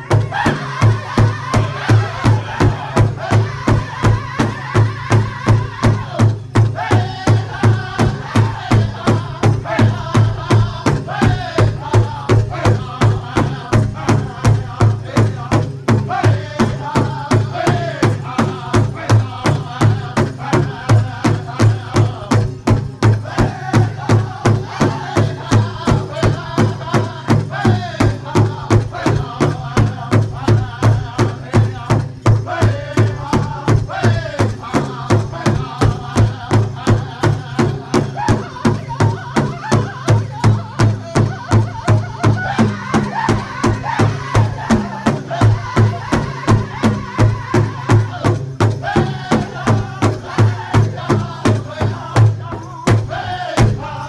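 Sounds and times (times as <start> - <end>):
big drum steady beat: 0.0 - 54.0
group singing: 0.0 - 54.0.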